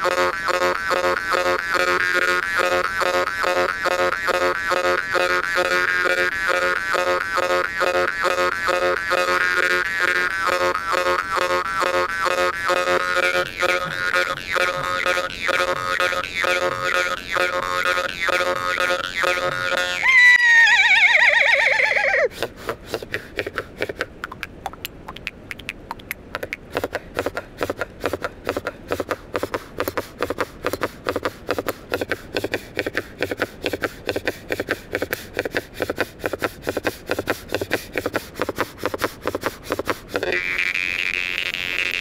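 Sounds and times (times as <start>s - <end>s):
jaw harp playing: 0.0s - 22.4s, 23.4s - 42.0s.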